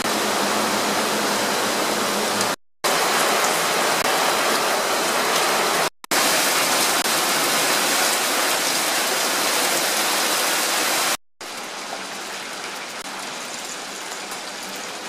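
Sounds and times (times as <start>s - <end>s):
heavy rain on pavement: 0.0s - 15.0s
rain on flooded street: 0.0s - 15.0s
scattered rain patters: 0.1s - 15.0s.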